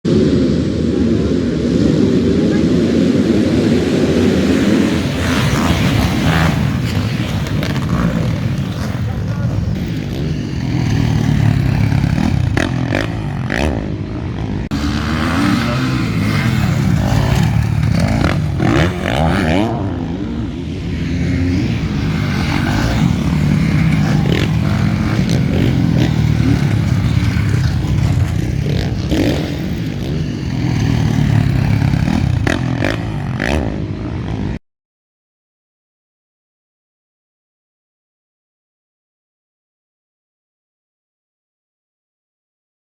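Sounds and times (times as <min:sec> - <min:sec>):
motocross motorcycles revving: 0:00.1 - 0:34.6.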